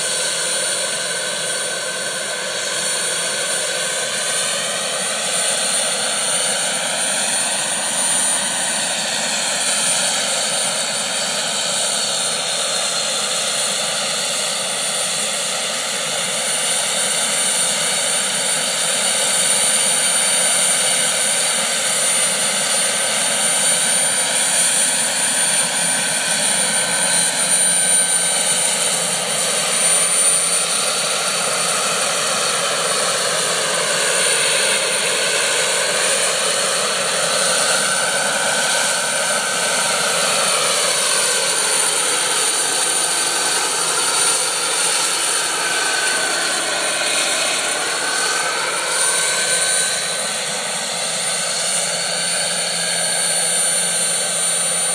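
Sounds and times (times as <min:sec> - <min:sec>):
helicopter rotor noise: 0:00.0 - 0:54.9.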